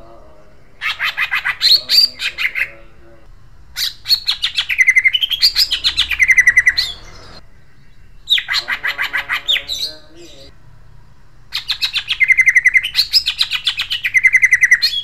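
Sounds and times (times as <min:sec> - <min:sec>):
bird singing rapid rolling notes: 0:00.0 - 0:15.0.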